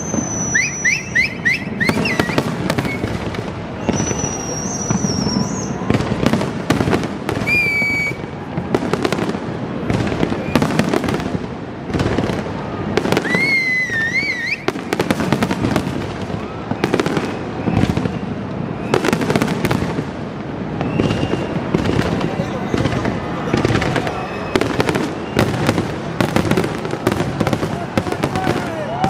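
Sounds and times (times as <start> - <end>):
fireworks bangs and crackles: 0.0 - 29.0
fireworks whistling: 0.0 - 29.0.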